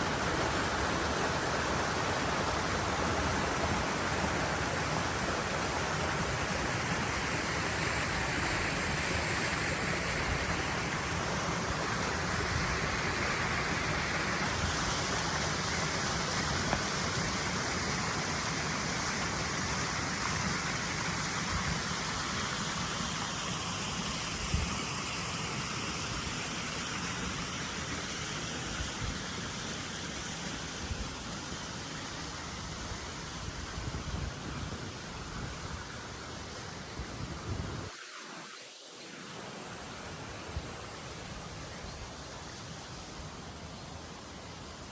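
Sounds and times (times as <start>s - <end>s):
running water rushing: 0.0s - 44.9s.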